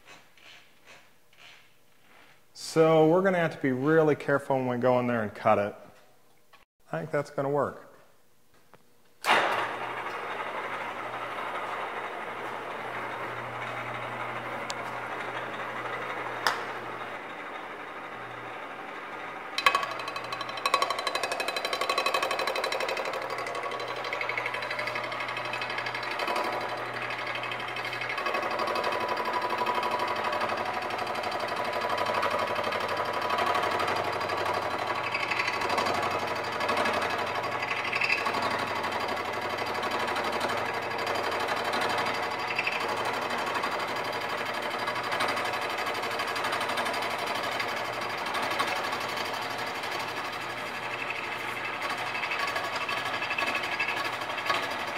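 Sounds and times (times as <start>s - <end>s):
milling machine cutting metal: 9.7s - 54.9s.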